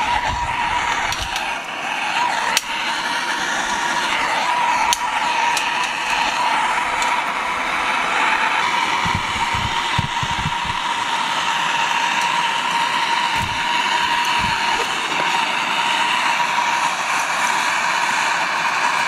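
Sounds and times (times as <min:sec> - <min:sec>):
electric blower running: 0:00.0 - 0:19.0.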